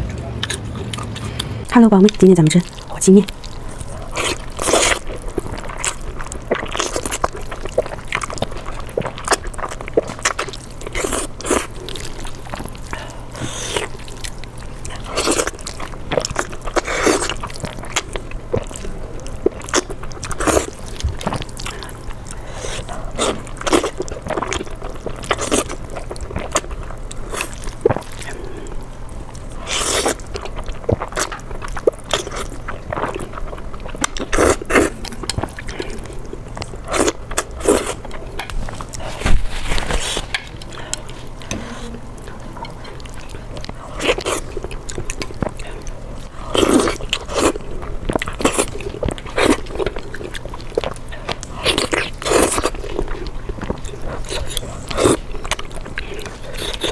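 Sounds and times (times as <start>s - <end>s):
wet chewing and slurping: 0.1s - 56.9s.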